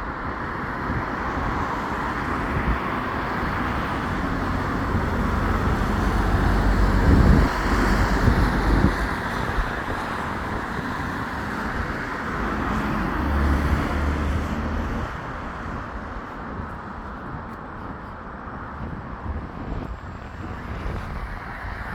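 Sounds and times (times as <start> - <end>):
traffic tyre rush: 0.0 - 21.9.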